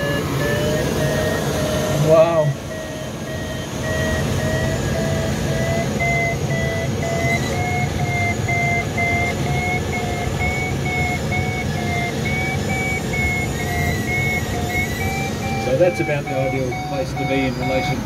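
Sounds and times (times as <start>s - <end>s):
variometer beeping: 0.0s - 18.0s.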